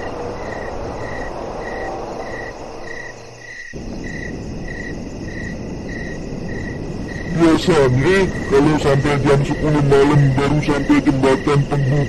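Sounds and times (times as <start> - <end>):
crickets chirping: 0.0 - 12.0
steady background hiss: 0.0 - 12.0.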